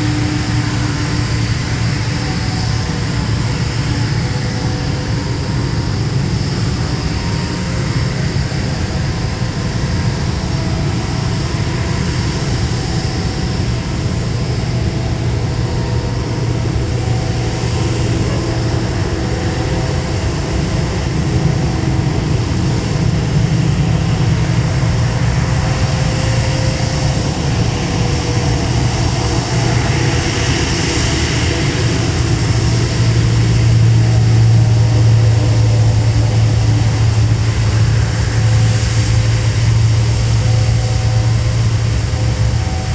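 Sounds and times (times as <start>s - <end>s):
jet engines humming and whining: 0.0s - 42.9s.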